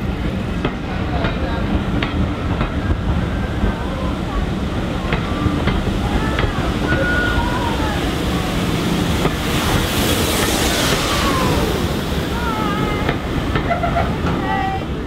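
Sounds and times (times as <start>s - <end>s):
steam hissing: 0.0s - 14.8s
train wheels rolling on rails: 0.0s - 15.0s.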